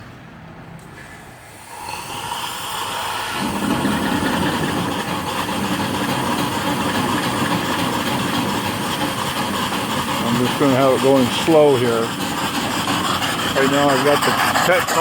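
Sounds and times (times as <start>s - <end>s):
small steam engines running slowly: 0.8s - 15.0s
steam and water hissing: 1.0s - 15.0s.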